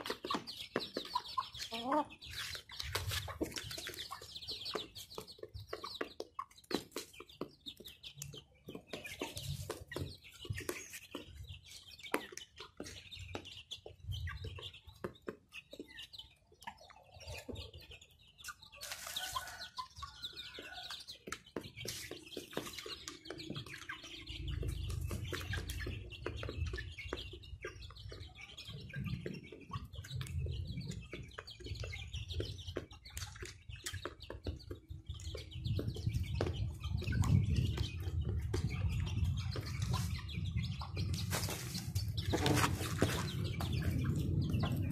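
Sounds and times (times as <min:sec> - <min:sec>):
chicks chirping and clucking: 0:00.0 - 0:44.9
chicks pecking on cardboard: 0:00.0 - 0:44.9.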